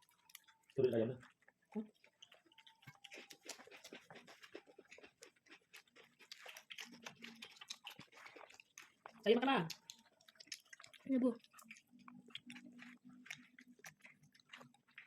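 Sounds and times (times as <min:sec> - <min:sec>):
chewing with mouth smacks: 0:00.0 - 0:15.0.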